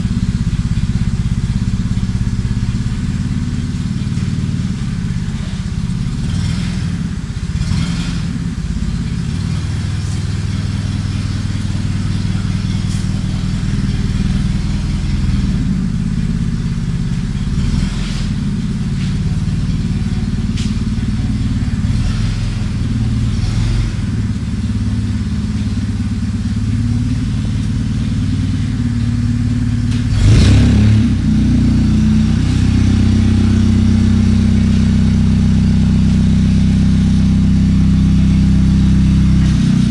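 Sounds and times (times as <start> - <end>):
forklift engine running: 0.0 - 39.9.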